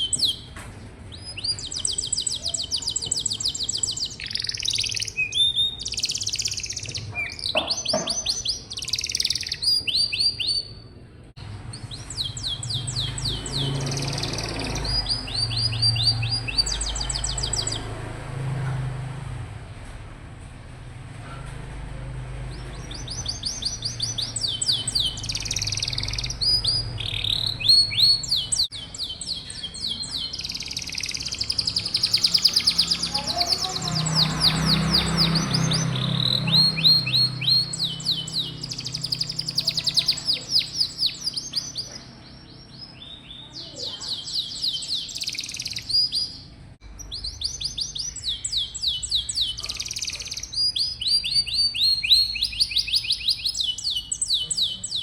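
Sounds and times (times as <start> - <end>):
canary singing trills: 0.0 - 19.2, 21.4 - 55.0.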